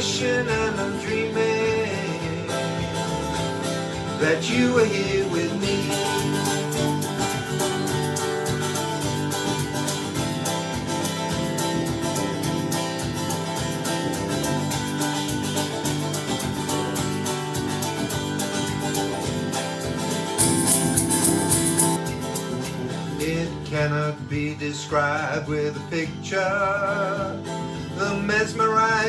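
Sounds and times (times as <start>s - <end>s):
acoustic guitars strumming: 0.0s - 29.0s.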